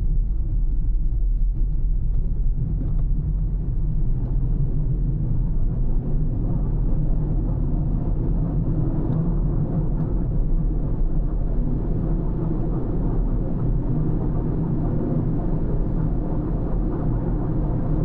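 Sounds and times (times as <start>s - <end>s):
car tyre and engine rumble: 0.0s - 18.0s.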